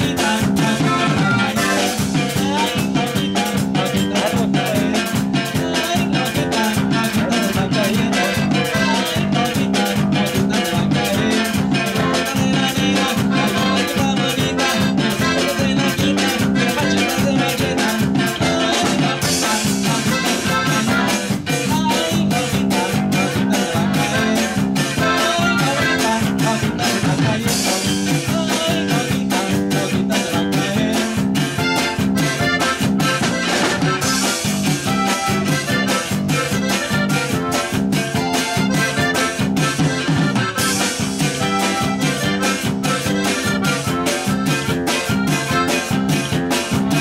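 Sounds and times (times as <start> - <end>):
button accordion melody: 0.0 - 47.0
drum kit beat: 0.0 - 47.0
live band playing: 0.0 - 47.0.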